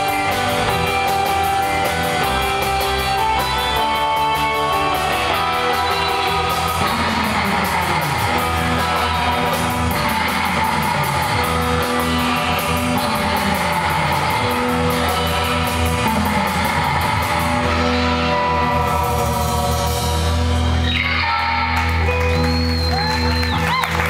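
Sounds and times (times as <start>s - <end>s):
drum kit: 0.0s - 24.0s
electric bass: 0.0s - 24.0s
electric guitars: 0.0s - 24.0s.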